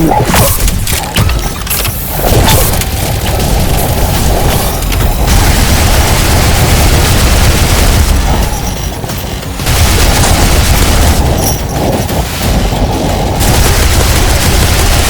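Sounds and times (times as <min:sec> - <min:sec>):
booms and gunfire-like blasts: 0:02.2 - 0:15.0.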